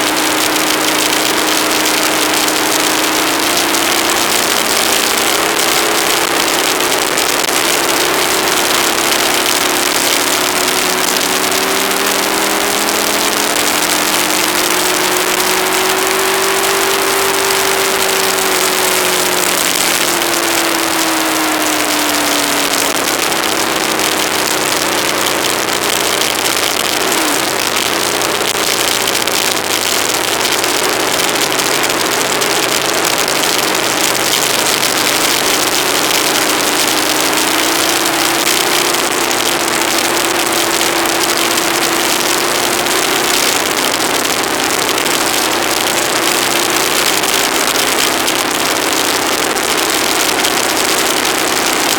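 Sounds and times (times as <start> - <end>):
faint motorcycle engine: 0.0 - 51.9.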